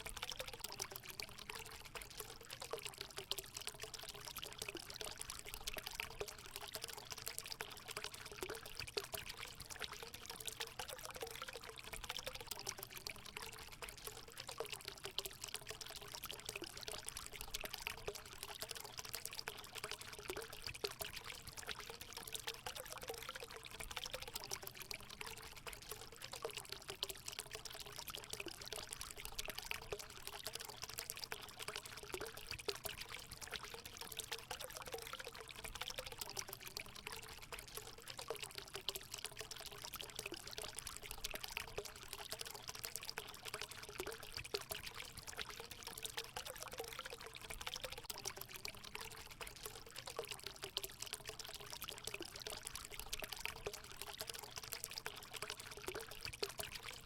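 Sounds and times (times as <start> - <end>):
water gurgling: 0.0 - 57.0
water pouring into pool: 0.0 - 57.0.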